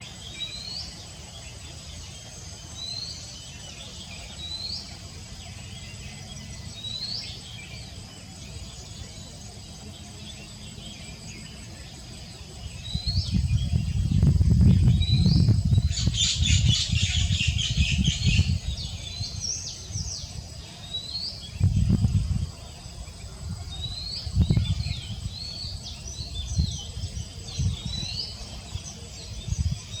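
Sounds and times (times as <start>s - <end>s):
high insect whine: 0.0s - 30.0s.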